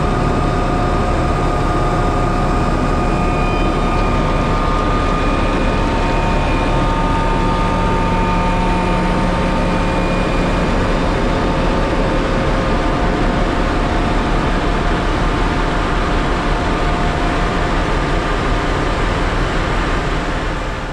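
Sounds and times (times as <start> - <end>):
snow-removal machinery rumbling: 0.0 - 20.4.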